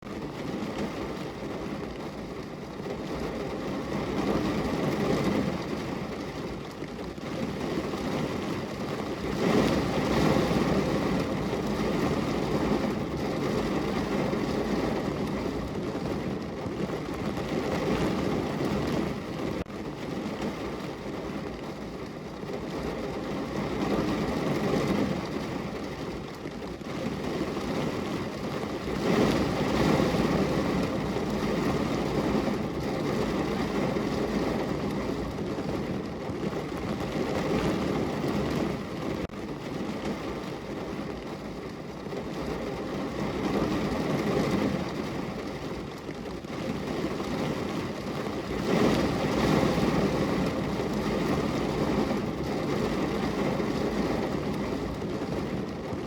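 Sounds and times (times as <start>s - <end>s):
heavy rain on car roof: 0.0s - 56.0s.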